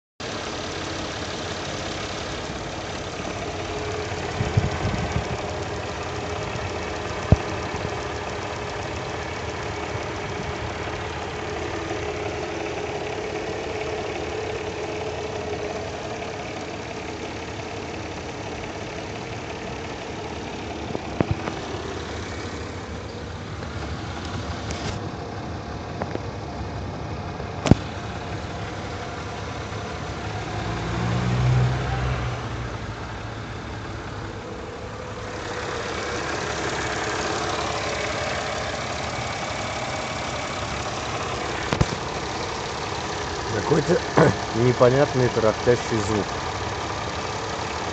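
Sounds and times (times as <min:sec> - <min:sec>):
car engine running with dull knock: 0:00.2 - 0:30.2, 0:34.0 - 0:47.9.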